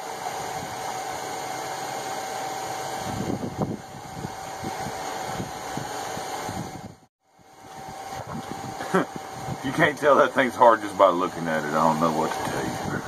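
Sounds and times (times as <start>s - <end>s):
constant hum tone: 0.0s - 13.0s
fan whir: 0.0s - 13.0s.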